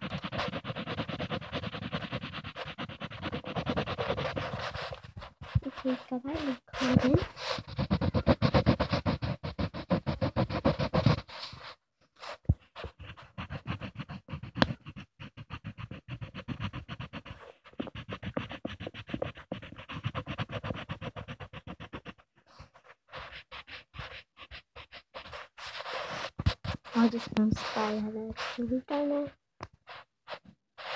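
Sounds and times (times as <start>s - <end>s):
scribbling on paper: 0.0s - 30.9s.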